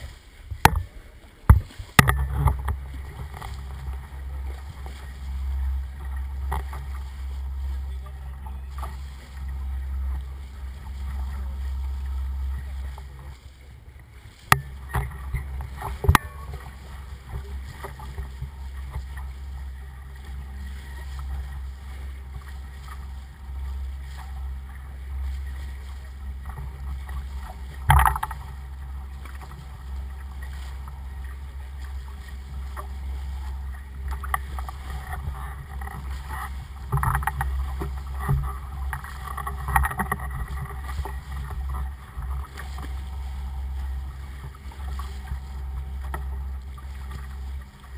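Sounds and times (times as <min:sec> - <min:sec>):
steady low engine rumble: 0:00.0 - 0:47.9
water splashing against a boat: 0:00.0 - 0:47.9.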